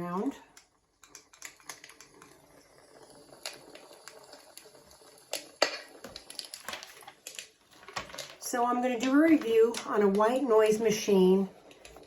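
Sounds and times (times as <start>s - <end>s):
white noise machine fire crackling: 0.0s - 12.0s.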